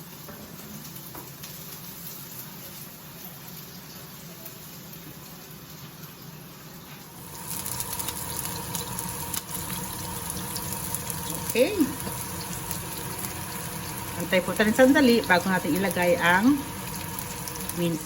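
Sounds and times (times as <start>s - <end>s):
garlic and onion sizzling in oil: 0.0s - 18.0s.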